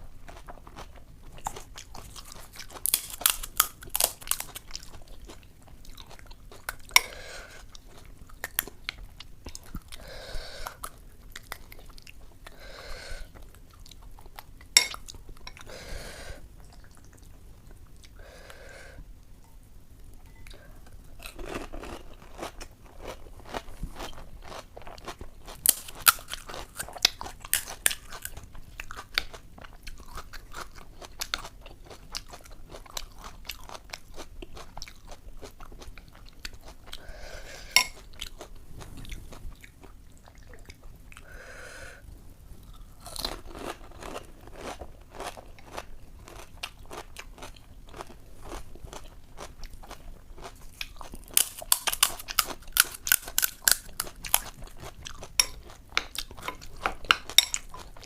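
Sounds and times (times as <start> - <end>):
chewing and crunching crisp shells: 0.0 - 12.6, 20.5 - 41.3, 42.6 - 58.0.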